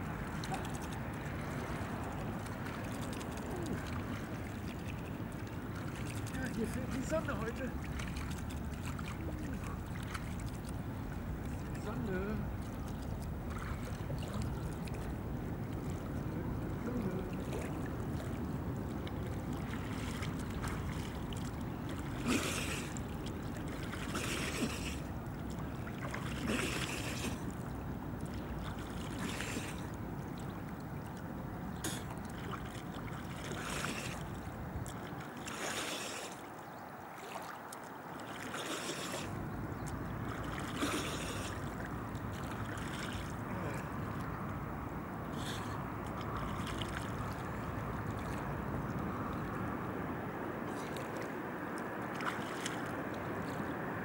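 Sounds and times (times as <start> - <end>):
river water splashing: 0.0 - 54.0.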